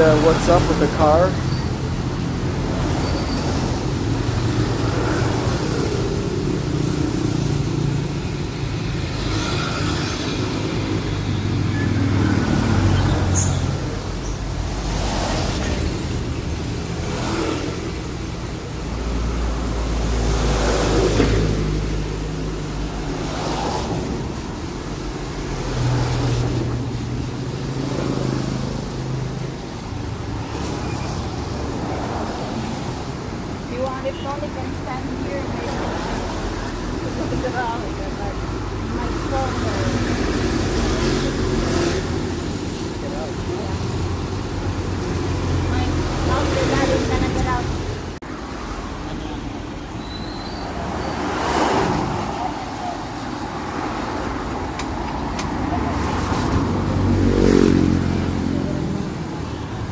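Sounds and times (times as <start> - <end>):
traffic noise: 0.0 - 59.9.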